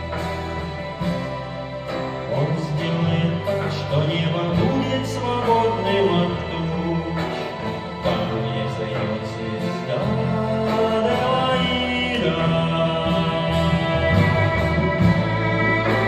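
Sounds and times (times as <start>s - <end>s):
live band instrumental music: 0.0s - 16.0s
violin: 0.0s - 16.0s.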